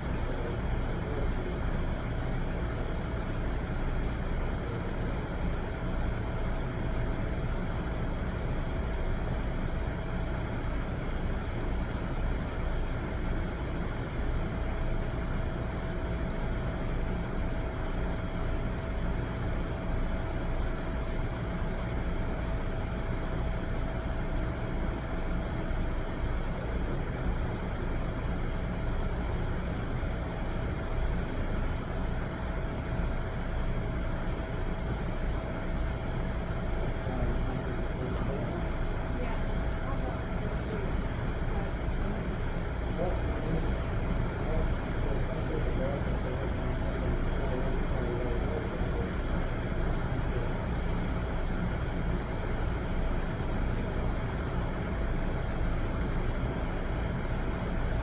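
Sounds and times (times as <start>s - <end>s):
faint constant hum: 0.0s - 58.0s
low rumbling background noise: 0.0s - 58.0s.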